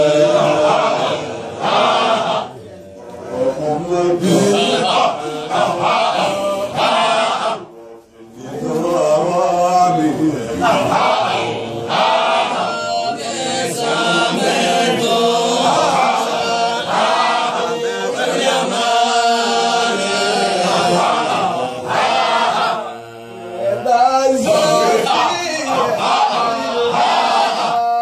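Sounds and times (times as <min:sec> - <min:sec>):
men chanting together: 0:00.0 - 0:28.0.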